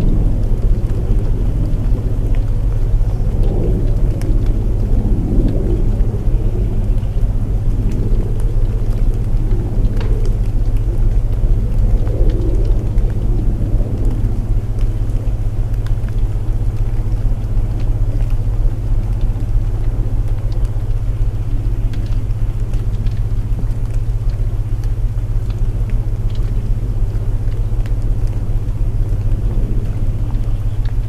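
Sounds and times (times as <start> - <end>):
rain noise: 0.0 - 31.0
wood fire crackling: 0.0 - 31.0.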